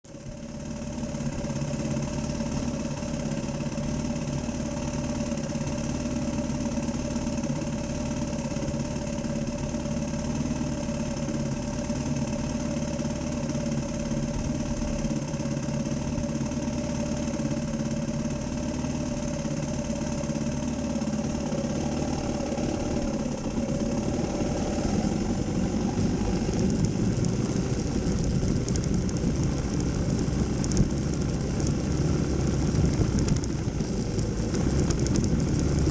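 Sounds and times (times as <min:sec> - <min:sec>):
dirt bike engine running: 0:00.1 - 0:35.9.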